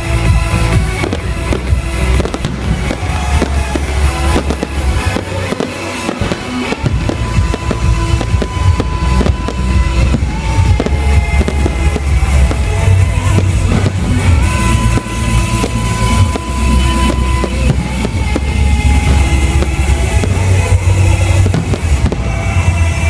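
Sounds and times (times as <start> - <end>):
fireworks bangs and crackles: 0.0 - 23.0
loud music with strong bass: 0.0 - 23.0.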